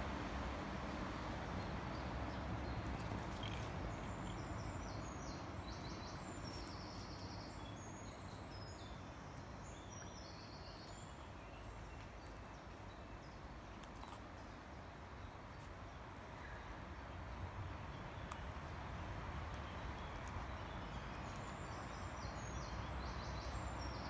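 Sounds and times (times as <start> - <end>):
birds singing: 1.6 - 16.8, 19.5 - 24.0.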